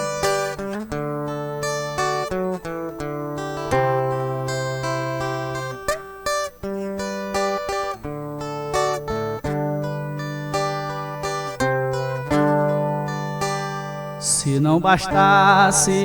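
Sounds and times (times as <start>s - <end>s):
steel-string guitar picking melody: 0.0s - 16.0s.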